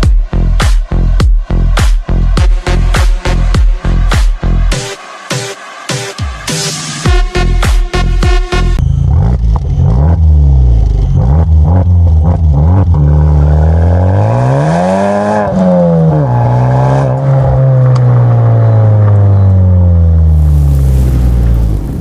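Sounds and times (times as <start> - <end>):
car engine revving: 0.4 - 19.2.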